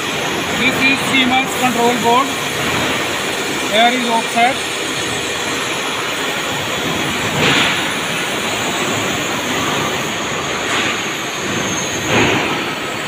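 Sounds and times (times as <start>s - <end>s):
lathe and machinery noise: 0.0s - 13.0s.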